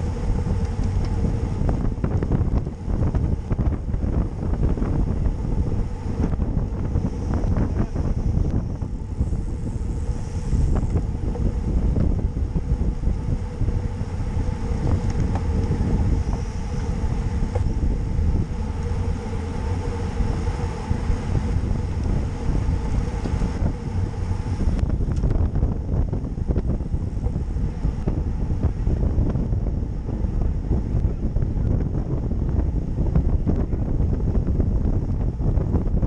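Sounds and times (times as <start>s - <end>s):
faint steady hum: 0.0s - 36.0s
tyres rumbling on road: 0.0s - 36.0s
wind buffeting microphone: 0.0s - 36.0s.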